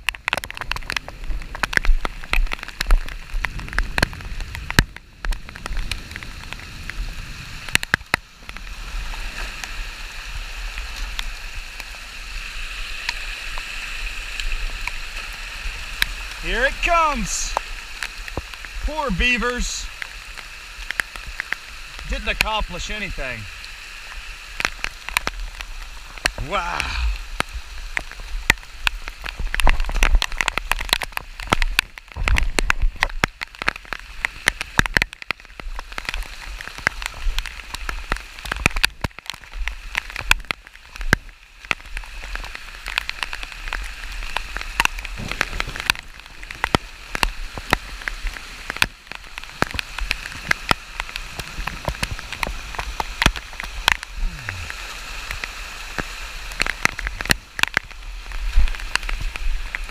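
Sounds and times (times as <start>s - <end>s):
heavy rain: 0.0s - 59.9s
rain drops ticking on a surface: 0.0s - 59.9s.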